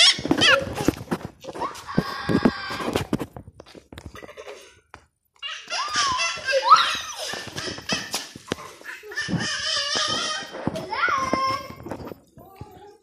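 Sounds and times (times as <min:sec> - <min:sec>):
children laughing and squealing: 0:00.0 - 0:03.1, 0:05.4 - 0:13.0.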